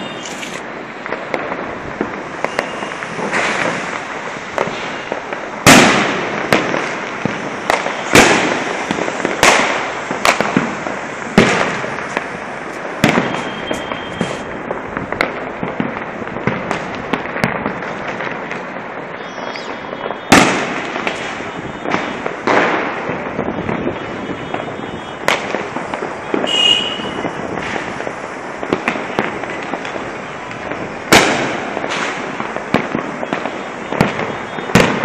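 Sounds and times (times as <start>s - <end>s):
firecrackers crackling: 0.0s - 35.0s
loud firework bangs: 0.0s - 35.0s.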